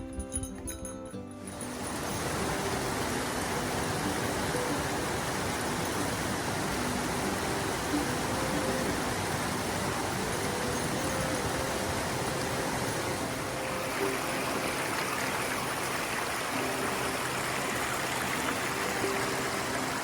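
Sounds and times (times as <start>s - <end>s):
steady rushing noise: 1.6s - 20.0s.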